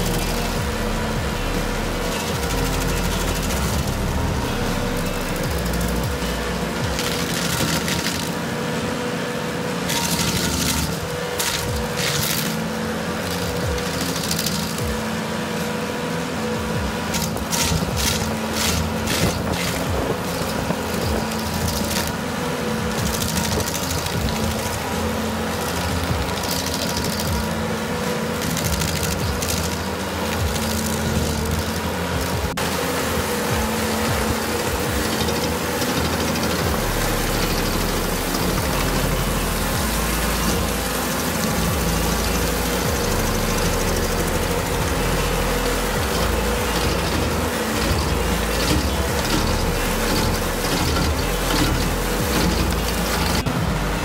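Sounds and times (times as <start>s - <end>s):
cutter wheel chipping wood: 0.0s - 54.0s
stump grinder engine running: 0.0s - 54.0s.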